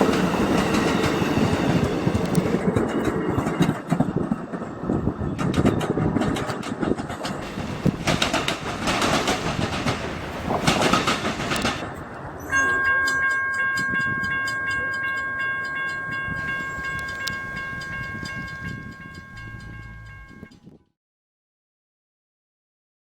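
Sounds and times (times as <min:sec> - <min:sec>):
train wheels rushing on rails: 0:00.0 - 0:12.5, 0:13.8 - 0:20.6.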